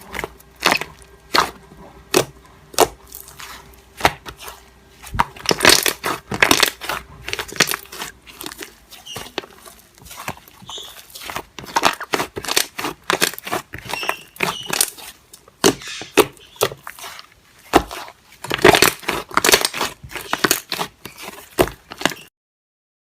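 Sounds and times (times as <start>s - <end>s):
crackling and crunching: 0.0s - 22.3s.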